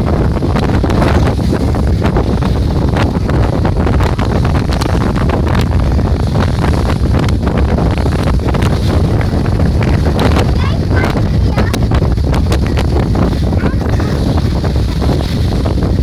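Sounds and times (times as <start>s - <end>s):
sea surf breaking on wall: 0.0s - 16.0s
wind buffeting microphone: 0.0s - 16.0s.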